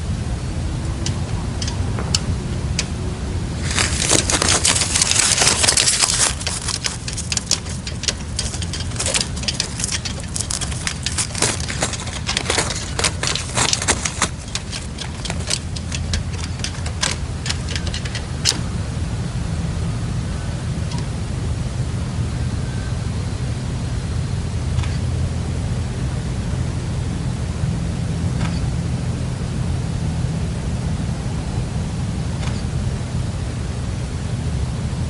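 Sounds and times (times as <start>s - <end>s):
low wind rumble on microphone: 0.0s - 35.0s.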